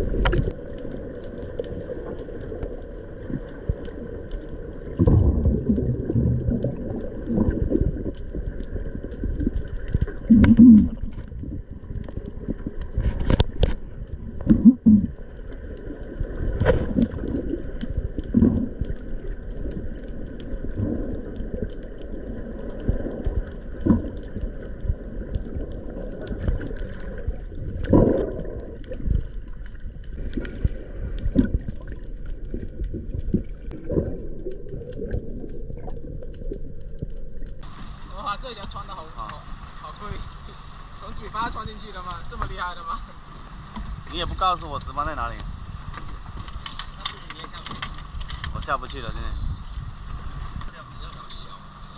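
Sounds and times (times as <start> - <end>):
water gurgling and bubbles: 0.0 - 47.1
underwater low rumble: 0.0 - 51.9.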